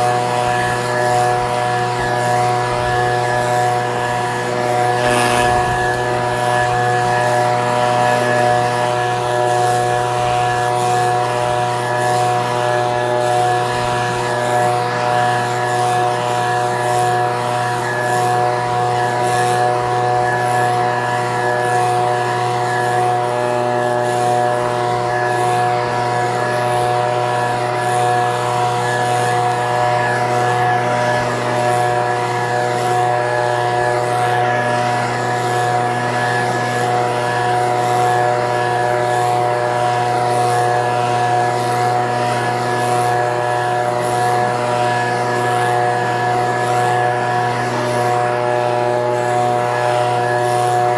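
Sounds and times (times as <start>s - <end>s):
leaf blower engine drone: 0.0s - 50.9s.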